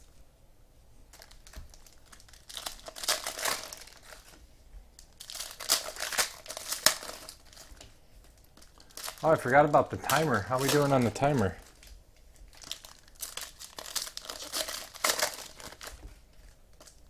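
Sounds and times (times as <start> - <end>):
foil packs tearing and crinkling: 1.1 - 4.4, 5.0 - 17.0.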